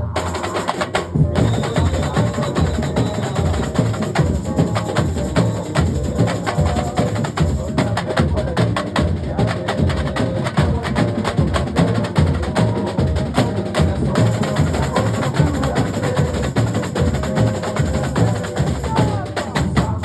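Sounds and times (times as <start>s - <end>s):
deep bass drums: 1.1s - 20.0s.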